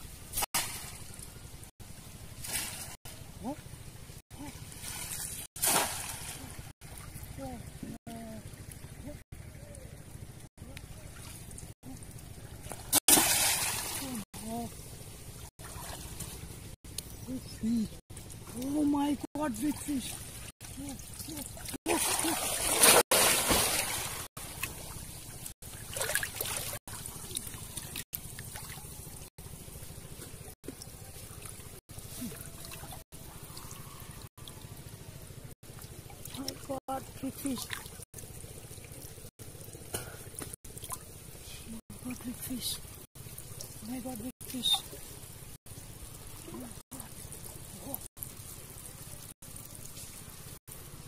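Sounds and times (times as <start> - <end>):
water sloshing and trickling: 0.1 - 51.0.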